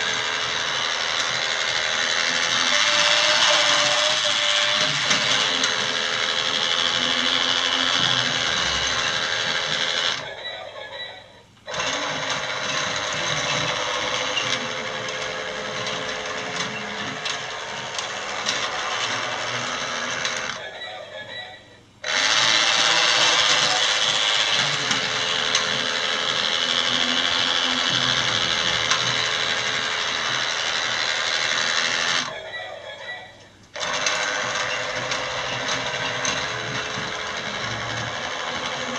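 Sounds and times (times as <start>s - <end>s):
toy train motor whirring: 0.0s - 10.7s, 11.6s - 21.0s, 22.0s - 38.9s.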